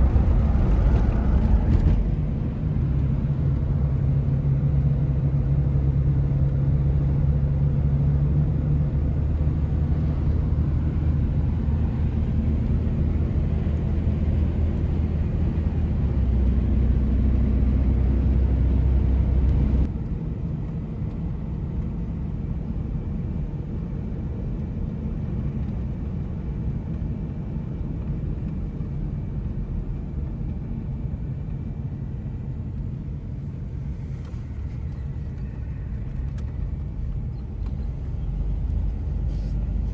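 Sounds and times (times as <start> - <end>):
vehicle engine and tyre rumble: 0.0 - 39.9.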